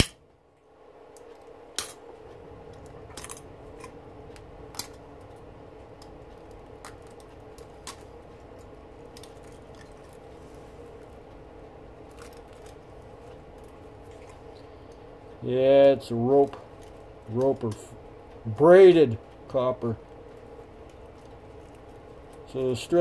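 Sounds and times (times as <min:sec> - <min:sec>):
background hum: 0:00.0 - 0:23.0.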